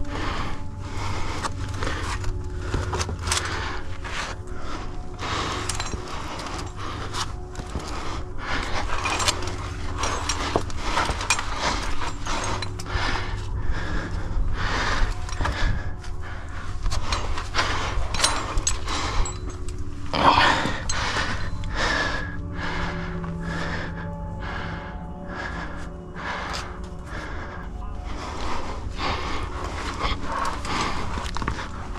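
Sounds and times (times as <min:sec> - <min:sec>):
background music: 0:00.0 - 0:31.9
person panting: 0:00.0 - 0:31.9.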